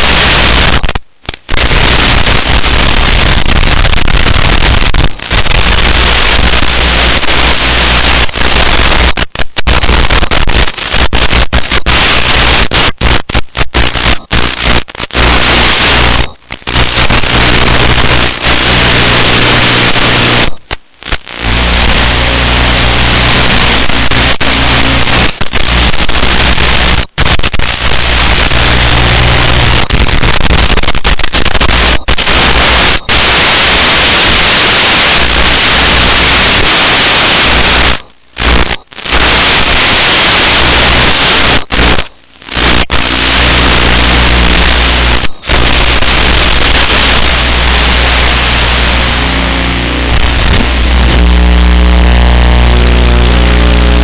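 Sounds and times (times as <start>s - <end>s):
static hiss: 0.0s - 54.0s.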